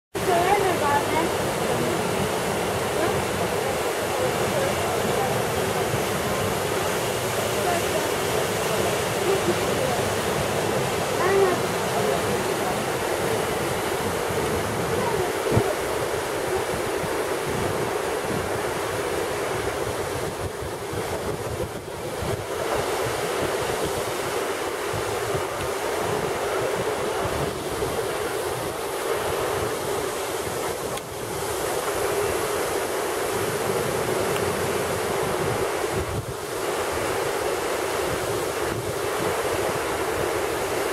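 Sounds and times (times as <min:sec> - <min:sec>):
waterfall rushing: 0:00.2 - 0:40.9
wind buffeting microphone: 0:00.2 - 0:40.9.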